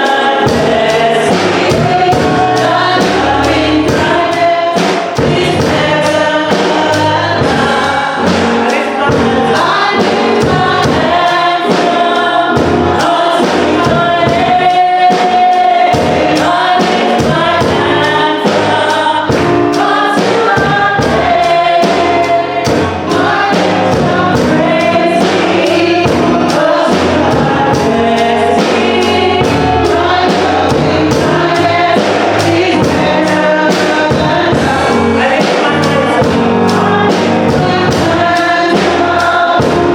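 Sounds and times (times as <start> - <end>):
gospel choir singing: 0.0 - 39.9.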